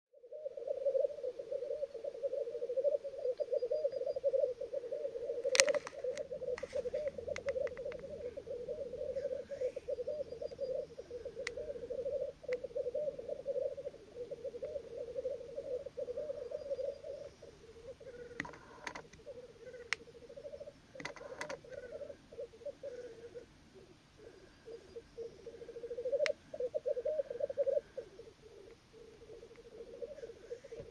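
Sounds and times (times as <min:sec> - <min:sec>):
grouse bubbling coo: 0:00.2 - 0:30.9
grouse hissing calls: 0:00.2 - 0:30.9.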